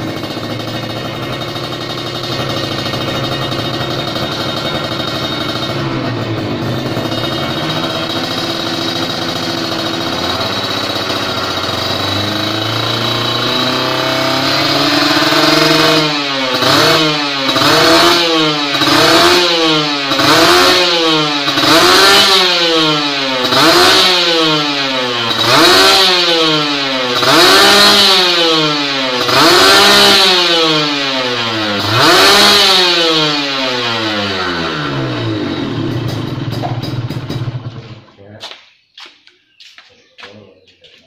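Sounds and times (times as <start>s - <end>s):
motorcycle engine revving: 0.0s - 38.6s.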